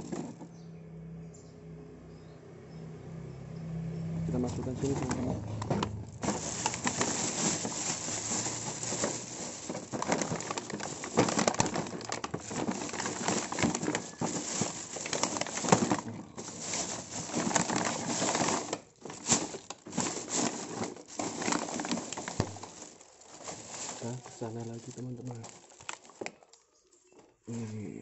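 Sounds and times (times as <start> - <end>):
plastic bag crinkling: 0.0 - 0.4, 4.4 - 27.4.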